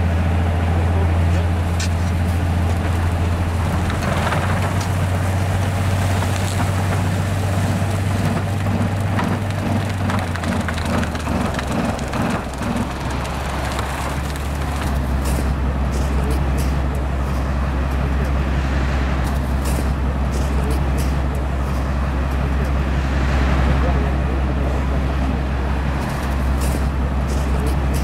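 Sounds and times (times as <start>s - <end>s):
snow-plow train drive droning: 0.0s - 28.0s.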